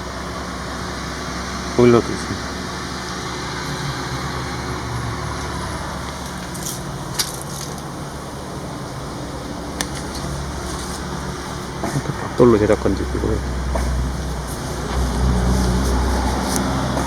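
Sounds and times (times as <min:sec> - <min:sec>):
boiler humming: 0:00.0 - 0:17.0.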